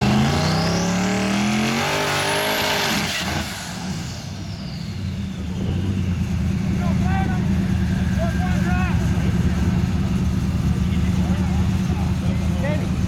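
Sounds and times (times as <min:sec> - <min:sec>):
car engine revving: 0:00.0 - 0:13.0
spinning tires hissing: 0:00.3 - 0:13.0.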